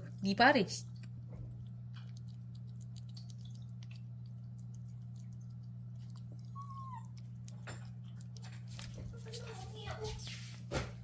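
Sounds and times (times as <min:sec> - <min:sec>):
cats chewing dry food: 0:00.0 - 0:10.7
steady low hum: 0:00.0 - 0:11.0.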